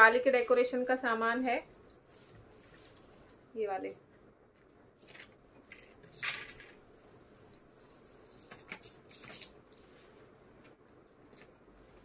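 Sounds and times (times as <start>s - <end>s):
artificial garlands rustling: 0.0s - 3.8s, 4.7s - 10.7s.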